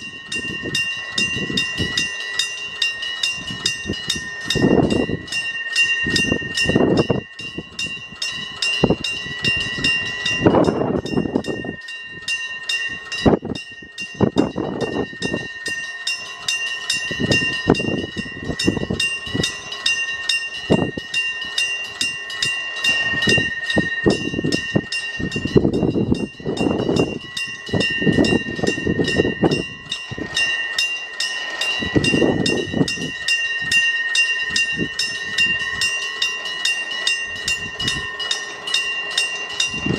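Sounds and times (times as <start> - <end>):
level-crossing warning bell ringing: 0.0 - 39.9
train wheel rumble and clatter: 0.0 - 39.9.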